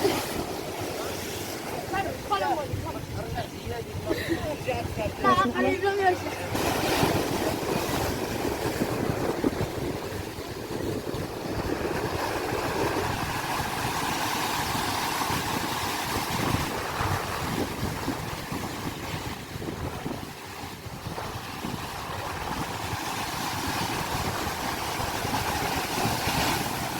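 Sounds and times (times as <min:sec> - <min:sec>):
sea waves washing: 0:00.0 - 0:26.9
wind buffeting microphone: 0:00.0 - 0:26.9.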